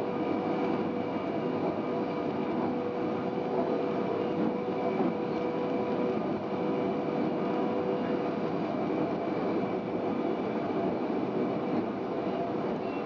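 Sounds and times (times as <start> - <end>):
constant hum: 0.0 - 13.0
train wheels on track: 0.0 - 13.0.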